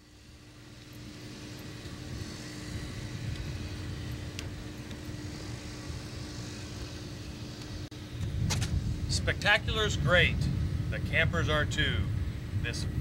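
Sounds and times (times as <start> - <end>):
faint hum: 0.0 - 13.0
low outdoor rumble: 0.0 - 13.0.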